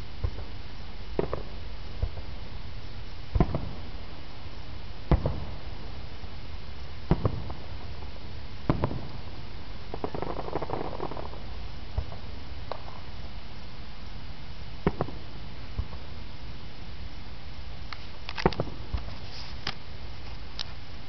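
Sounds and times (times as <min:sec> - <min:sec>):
fireworks booming: 0:00.0 - 0:13.8, 0:14.7 - 0:16.9, 0:17.8 - 0:20.2
faint fireworks crackling: 0:00.0 - 0:21.0.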